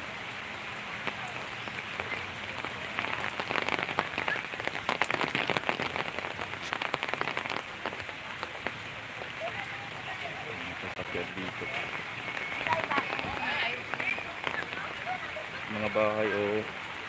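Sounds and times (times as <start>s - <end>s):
rain falling: 0.0s - 17.0s
heavy drops pattering close by: 1.0s - 9.5s, 10.6s - 16.0s.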